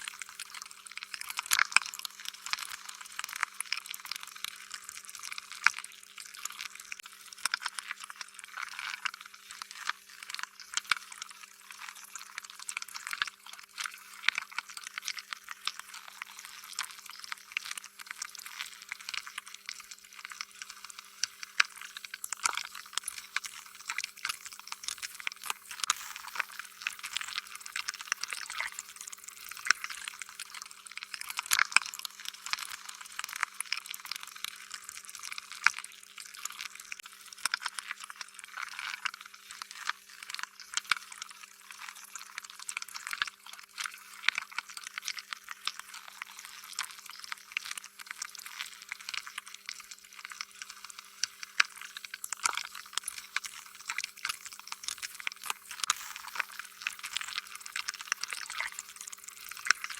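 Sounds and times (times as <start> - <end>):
slime squishing with wet clicks: 0.0 - 59.9.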